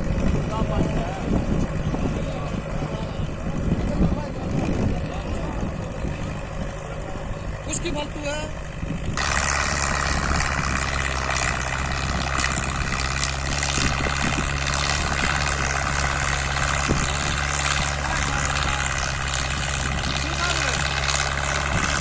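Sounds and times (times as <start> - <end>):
harrow rushing noise: 0.0 - 22.0
tractor diesel engine running: 0.0 - 22.0.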